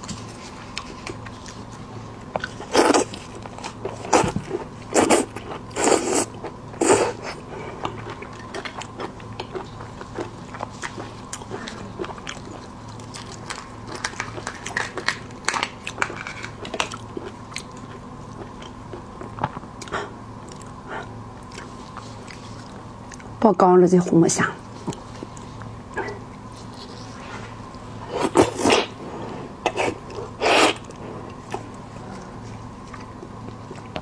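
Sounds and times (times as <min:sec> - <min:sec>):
chewing with wet clicks: 0:00.7 - 0:23.4, 0:24.6 - 0:26.9, 0:30.8 - 0:34.0.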